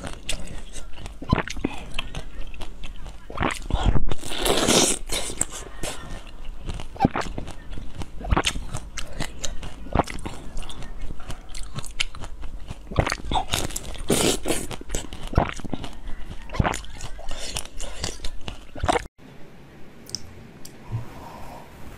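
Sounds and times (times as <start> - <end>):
crunchy chewing of fruit: 0.0 - 19.1.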